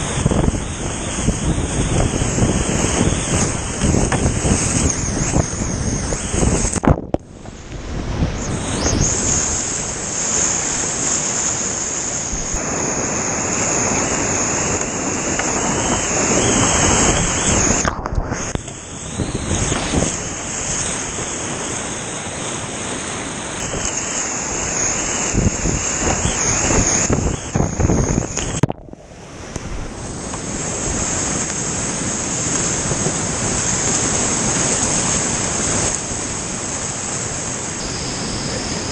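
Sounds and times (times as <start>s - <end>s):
whitewater rushing: 0.0s - 38.9s.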